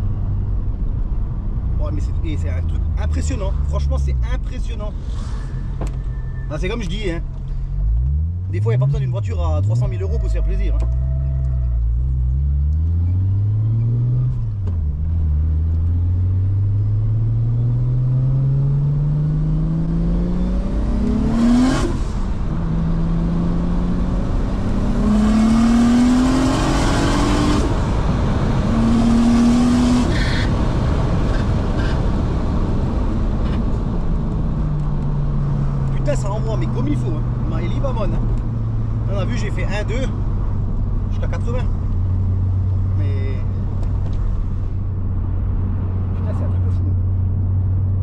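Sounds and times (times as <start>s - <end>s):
car engine accelerating hard: 7.8s - 48.0s.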